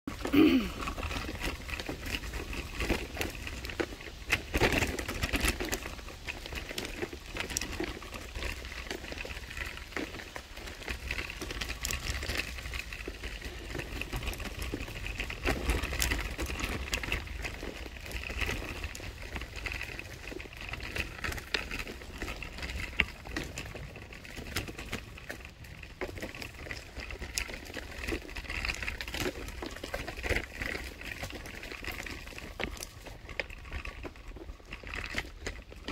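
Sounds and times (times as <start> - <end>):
scooter crunching and clicking on road: 0.1 - 35.9.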